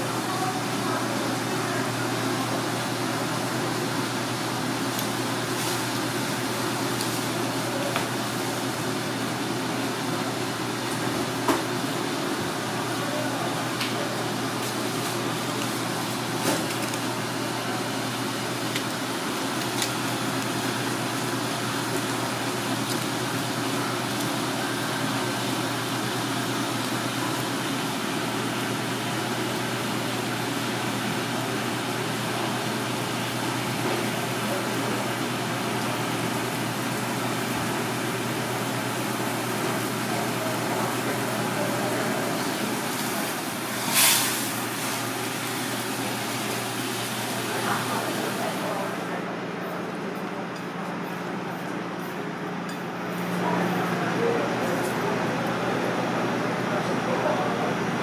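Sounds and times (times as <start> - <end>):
kitchen ventilation drone: 0.0 - 58.0.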